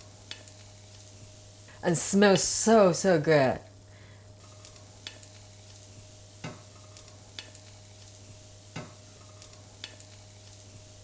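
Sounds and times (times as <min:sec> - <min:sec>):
frying pan sizzling: 0:00.0 - 0:11.0.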